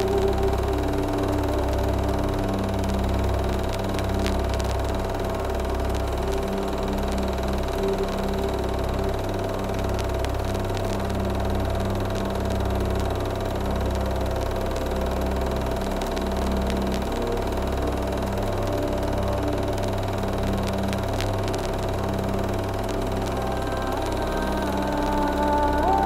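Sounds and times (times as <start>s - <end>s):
low drone with held tones: 0.0s - 26.0s
pulsing bass: 0.0s - 26.0s.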